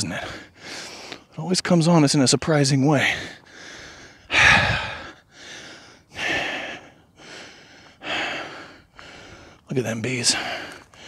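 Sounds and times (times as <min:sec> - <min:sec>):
man breathing hard: 0:00.0 - 0:01.3, 0:03.0 - 0:11.0.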